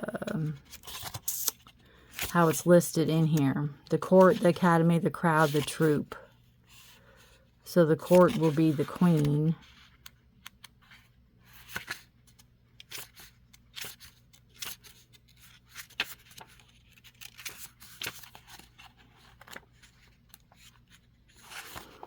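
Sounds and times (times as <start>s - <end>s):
book pages rustling: 0.1s - 3.4s, 4.0s - 22.0s.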